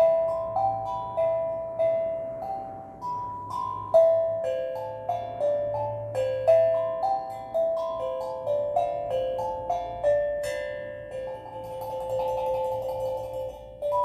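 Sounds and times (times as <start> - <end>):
steel drum melody: 0.0 - 14.0.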